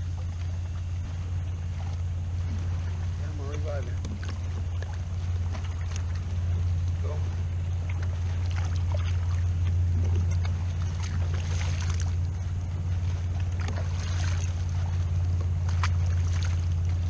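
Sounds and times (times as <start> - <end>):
light water splashes: 0.0 - 17.0
steady low hum: 0.0 - 17.0.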